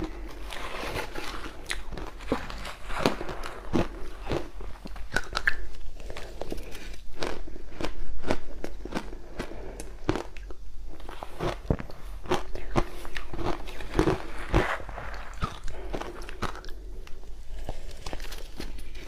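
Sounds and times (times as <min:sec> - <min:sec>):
chewing crushed ice: 0:00.0 - 0:19.0.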